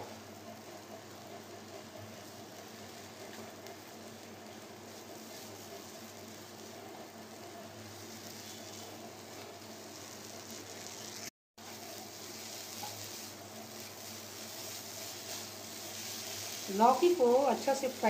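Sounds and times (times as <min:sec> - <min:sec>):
vegetable sizzling in a pan: 0:00.0 - 0:18.0
wooden spatula turning food: 0:00.6 - 0:18.0.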